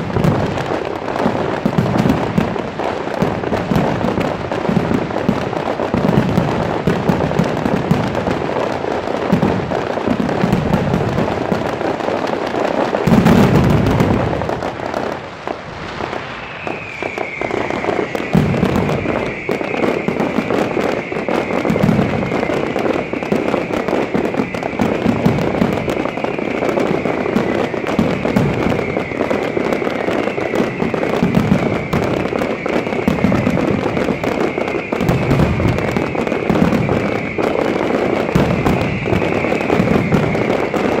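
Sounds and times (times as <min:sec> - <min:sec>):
falling firework whistle: 0:00.0 - 0:41.0
firework shells booming: 0:00.0 - 0:41.0
fireworks crackling: 0:00.0 - 0:41.0.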